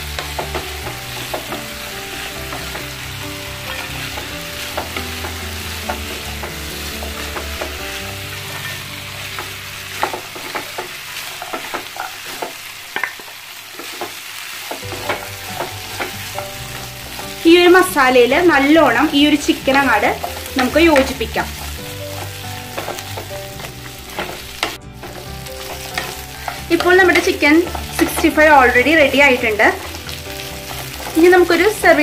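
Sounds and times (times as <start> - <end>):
spatula knocking and scraping pan: 0.0 - 13.2, 13.8 - 32.0
chicken sizzling in a pan: 0.0 - 32.0.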